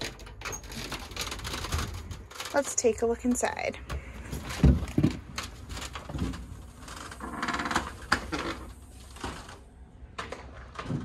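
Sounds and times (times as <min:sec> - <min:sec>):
door rattle: 0:00.0 - 0:09.6.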